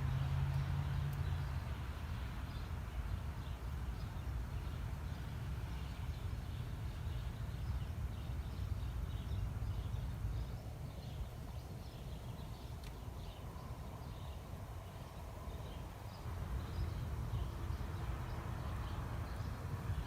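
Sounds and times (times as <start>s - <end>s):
small birds chirping: 0.4s - 20.0s.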